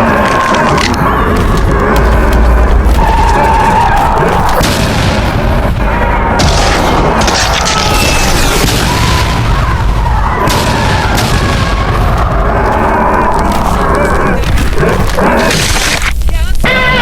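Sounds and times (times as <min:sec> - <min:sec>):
heavy impacts: 0:00.0 - 0:16.2
explosions booming and rumbling: 0:00.0 - 0:17.0.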